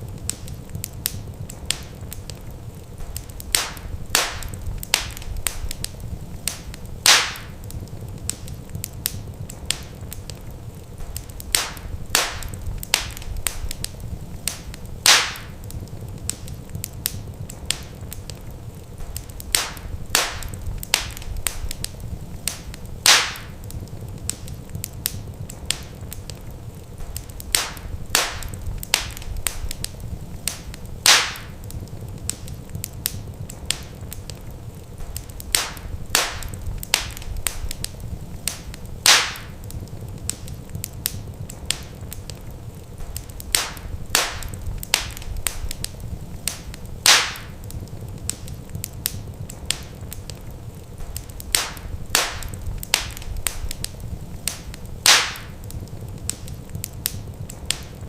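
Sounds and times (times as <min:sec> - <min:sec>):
loud fire pops: 0:00.0 - 0:58.0
steady low rumble: 0:00.0 - 0:58.0
wood fire crackling: 0:00.0 - 0:58.0.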